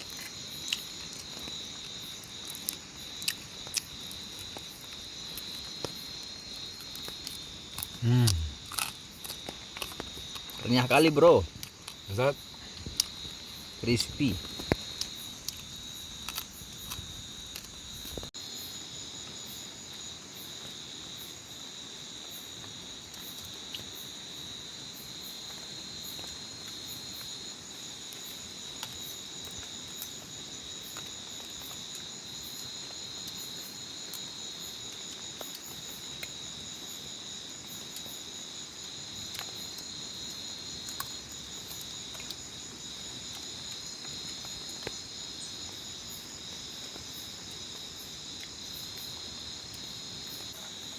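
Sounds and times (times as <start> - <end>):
crickets and insects trilling: 0.0 - 50.9.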